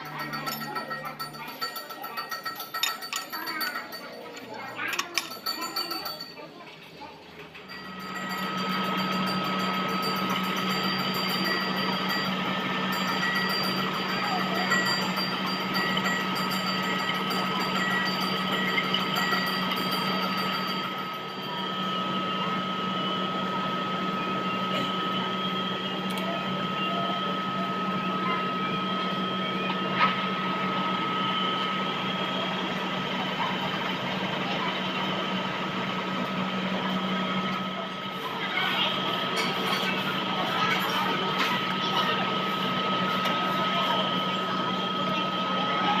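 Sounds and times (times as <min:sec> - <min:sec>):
metal lathe humming and whining: 0:07.6 - 0:46.0.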